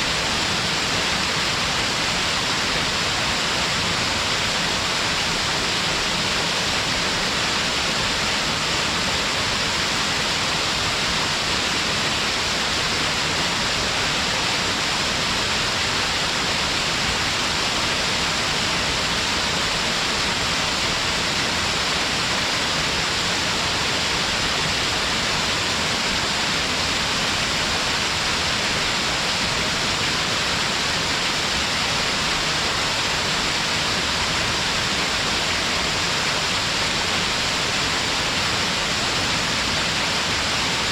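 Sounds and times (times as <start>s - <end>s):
waterfall rushing over rock ledges: 0.0s - 40.9s.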